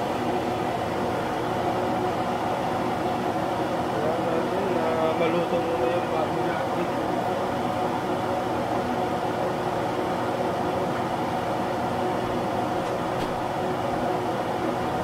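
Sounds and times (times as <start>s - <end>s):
kitchen fan humming: 0.0s - 15.0s.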